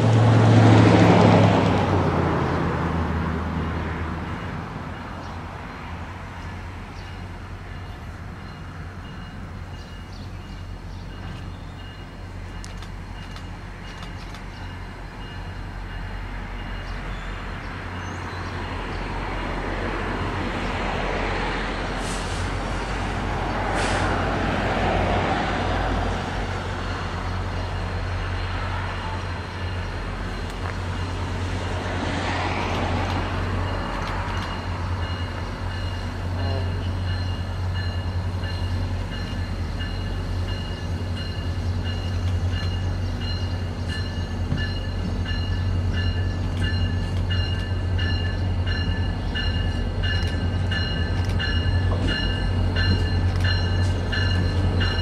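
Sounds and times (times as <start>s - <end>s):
diesel locomotive engine hum: 0.0s - 55.0s.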